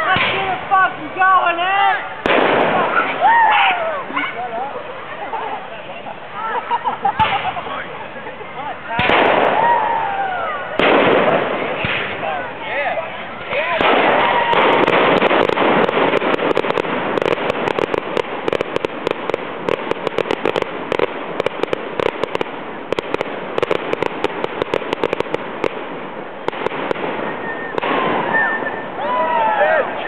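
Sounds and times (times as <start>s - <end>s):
fireworks crackling pops: 0.0s - 4.3s, 7.1s - 7.8s, 9.0s - 12.6s, 13.4s - 29.4s
fireworks rushing noise: 0.0s - 30.0s.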